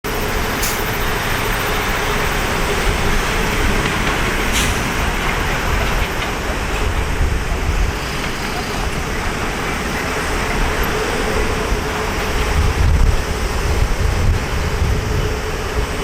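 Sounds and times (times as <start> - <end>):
jet engines running: 0.1 - 16.0.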